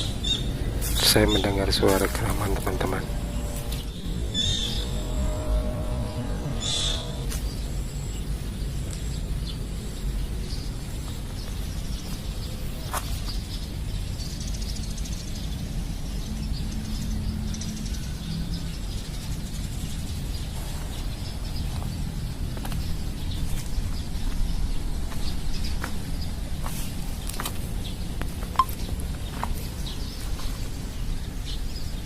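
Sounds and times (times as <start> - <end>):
bird chirps: 0.0 - 26.4, 27.8 - 32.0
steady low rumble: 0.0 - 32.0.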